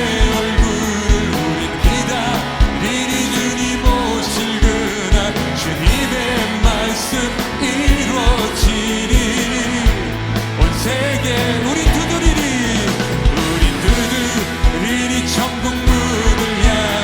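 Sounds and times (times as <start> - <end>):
voices singing along: 0.0 - 17.0
worship band playing: 0.0 - 17.0.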